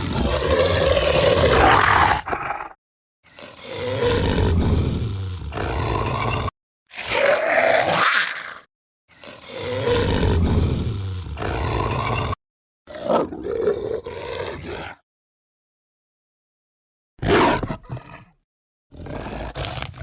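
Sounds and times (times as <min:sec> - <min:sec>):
creature roars: 0:00.0 - 0:08.7, 0:09.3 - 0:15.0, 0:17.2 - 0:20.0.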